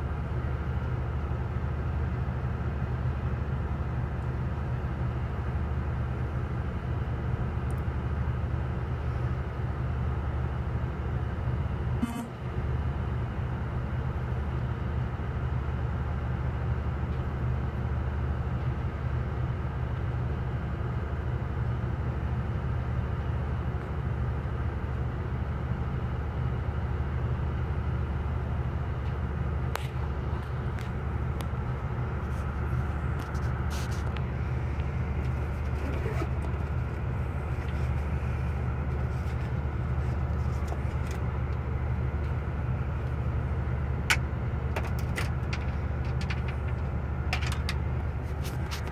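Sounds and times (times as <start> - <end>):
ferry engines droning: 0.0 - 48.9.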